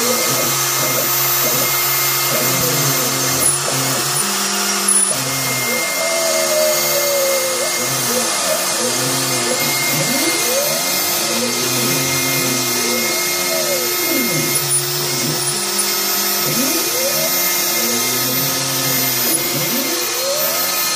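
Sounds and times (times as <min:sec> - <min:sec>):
stepper motors whining: 0:00.0 - 0:20.9.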